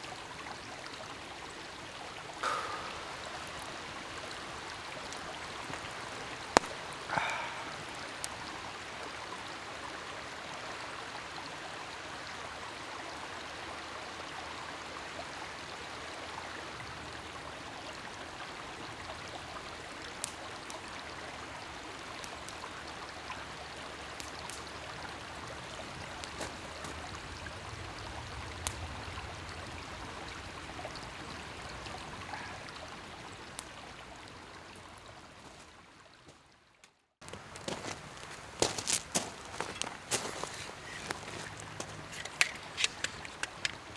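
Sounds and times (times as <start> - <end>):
campfire hissing and crackling: 0.0 - 35.8, 37.2 - 43.9.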